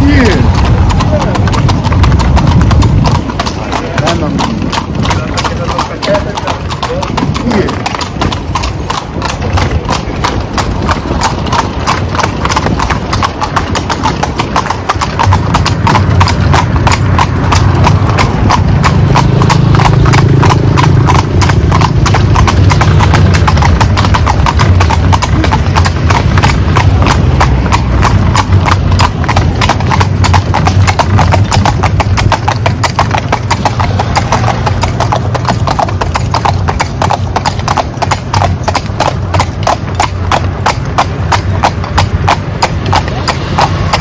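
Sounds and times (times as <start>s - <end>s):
hooves clip-clopping on pavement: 0.0s - 44.0s.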